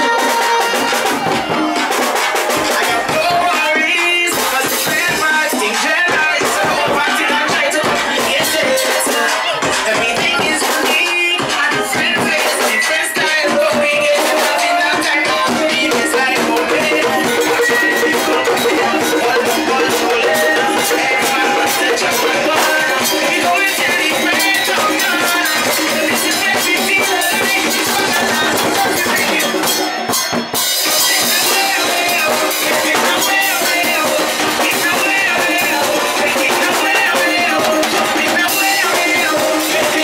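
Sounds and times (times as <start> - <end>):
percussion band playing: 0.0 - 40.0.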